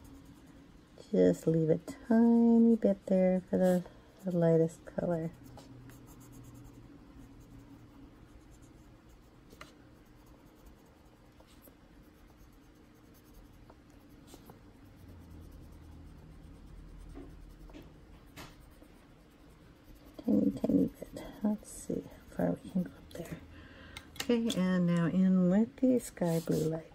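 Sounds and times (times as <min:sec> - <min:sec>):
colored pencil scratching on paper: 0:00.0 - 0:23.4, 0:25.8 - 0:26.9
low steady hum: 0:00.0 - 0:26.9.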